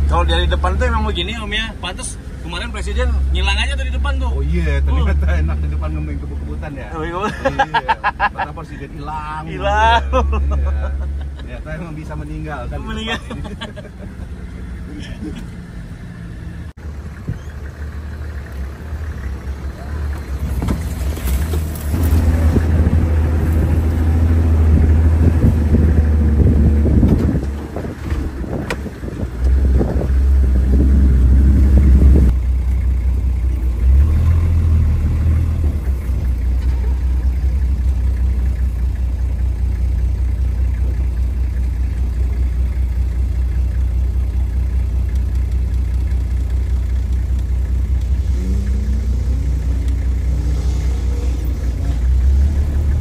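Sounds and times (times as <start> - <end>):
off-road vehicle engine drone: 0.0 - 53.0.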